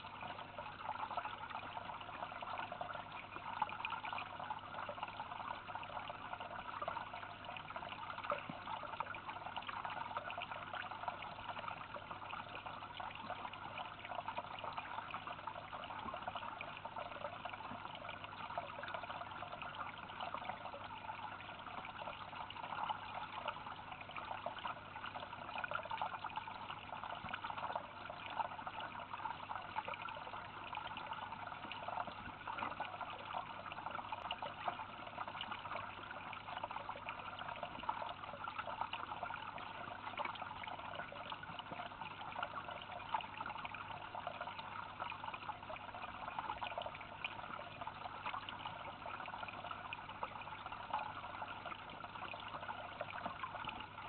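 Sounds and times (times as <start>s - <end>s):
fountain water trickling: 0.0s - 54.0s.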